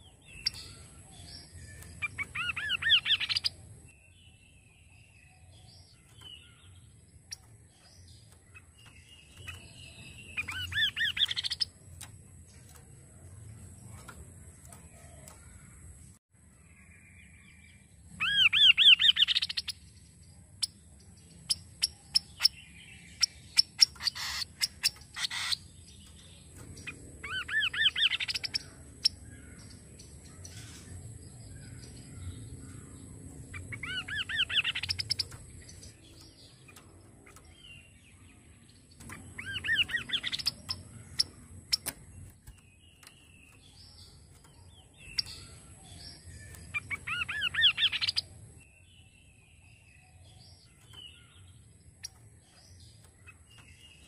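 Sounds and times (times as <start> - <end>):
bird singing trilled whistled notes: 0.0 - 12.0, 16.8 - 19.9, 20.6 - 54.0
sharp bird ticks: 0.2 - 3.8, 5.9 - 16.2, 18.5 - 19.8, 21.4 - 22.6, 23.2 - 31.0, 31.6 - 48.5, 50.6 - 54.0.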